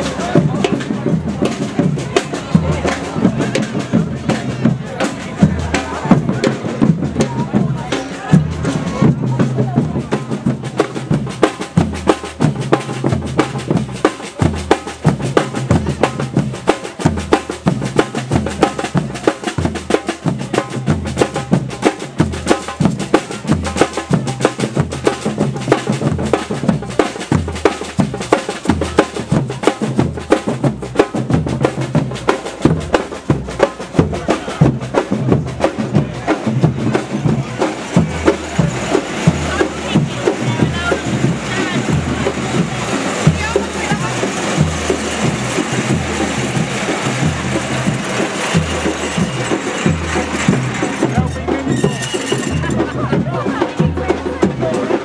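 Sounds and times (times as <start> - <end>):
bass drums beating: 0.0 - 55.0
patter of lighter drum strokes: 0.0 - 55.0.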